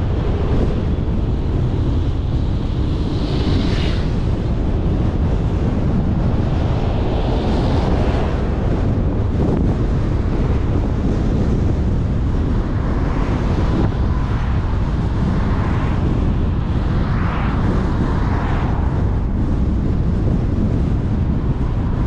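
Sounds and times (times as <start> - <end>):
car road and tyre noise: 0.0 - 22.0
wind rumble on microphone: 0.0 - 22.0.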